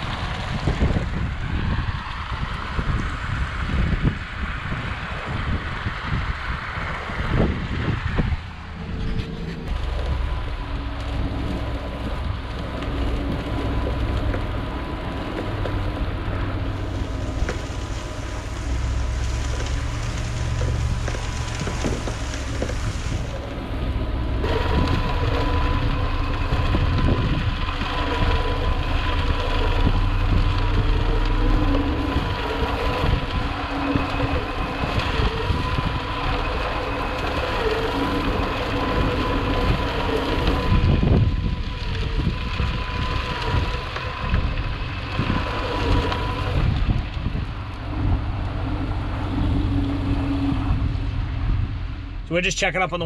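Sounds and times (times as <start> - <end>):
steady whine: 0.0 - 53.0
truck engine and road noise: 0.0 - 53.0.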